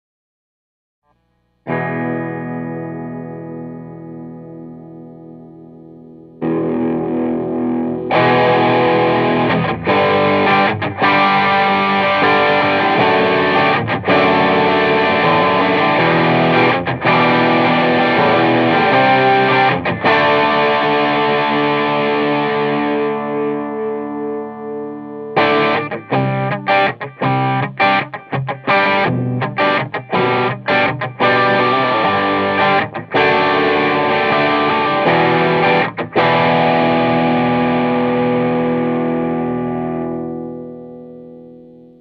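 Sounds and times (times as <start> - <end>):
distorted electric guitar chords: 1.1 - 42.0.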